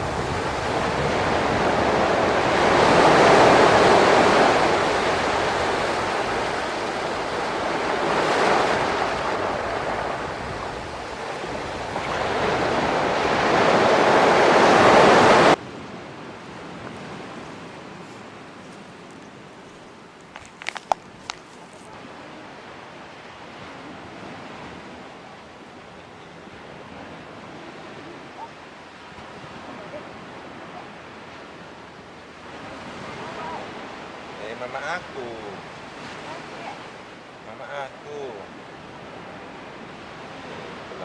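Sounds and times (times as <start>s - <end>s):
wind on microphone: 0.0s - 34.3s
sea surf breaking on beach: 0.0s - 41.0s.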